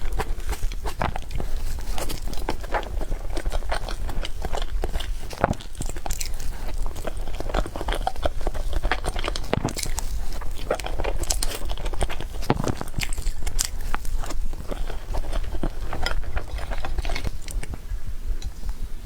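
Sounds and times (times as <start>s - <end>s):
wet chewing mouth clicks: 0.0s - 17.8s.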